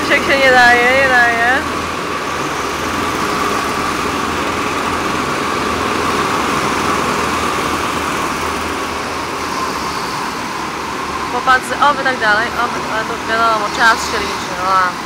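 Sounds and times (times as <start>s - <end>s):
go-kart engines whining: 0.0s - 15.0s.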